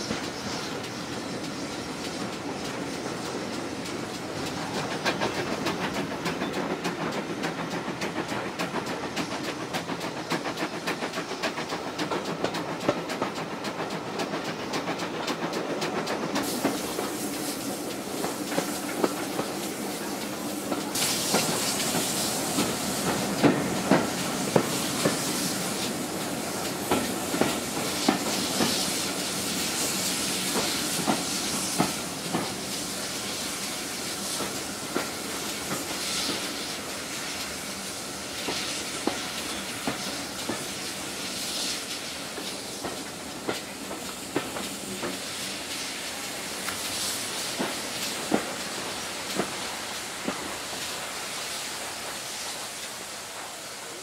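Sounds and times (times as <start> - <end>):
train rushing hiss: 0.0 - 54.0
train wheels clicking over rail joints: 0.0 - 54.0.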